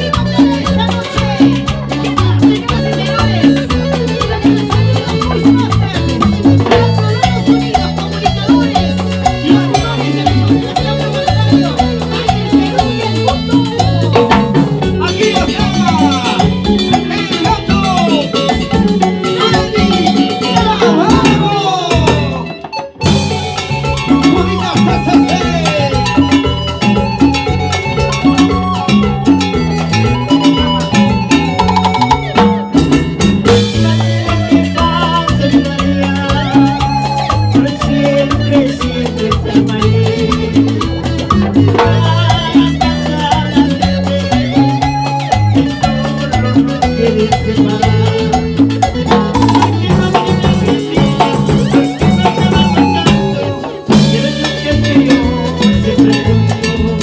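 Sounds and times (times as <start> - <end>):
dense percussion: 0.0 - 22.4, 23.0 - 57.0
salsa band playing: 0.0 - 57.0
stepping bass line: 0.0 - 57.0.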